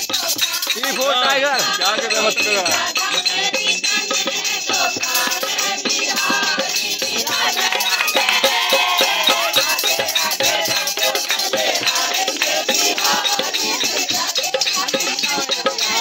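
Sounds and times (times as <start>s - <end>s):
crowd singing a devotional chant: 0.0s - 16.0s
rattling percussion: 0.0s - 16.0s
rhythmic clapping: 0.0s - 16.0s.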